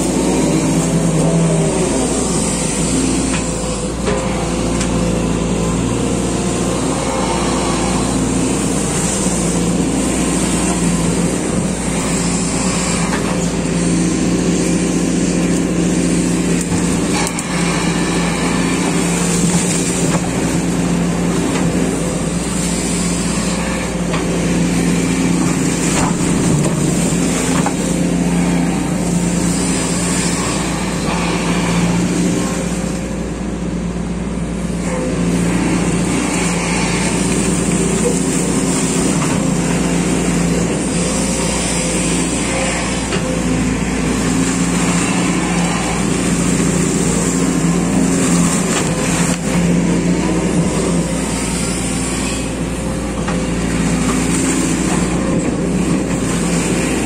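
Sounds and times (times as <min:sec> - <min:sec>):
excavator diesel engine running: 0:00.0 - 0:57.0
hydraulics working: 0:00.0 - 0:57.0.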